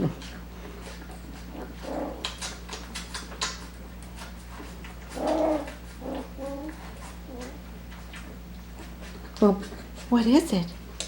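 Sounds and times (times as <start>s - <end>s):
puppies whimpering and grunting: 0.0s - 10.0s
puppies scuffling: 0.0s - 11.0s.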